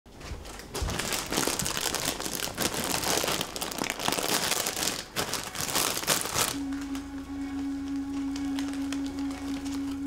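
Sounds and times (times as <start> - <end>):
plastic chip bag crinkling: 0.4 - 10.0.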